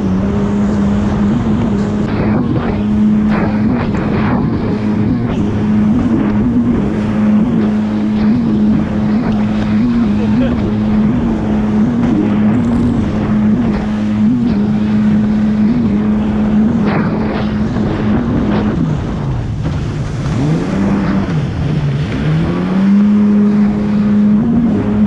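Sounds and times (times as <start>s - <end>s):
jet ski engine revving: 0.0s - 25.0s
water rushing and spraying: 0.0s - 25.0s.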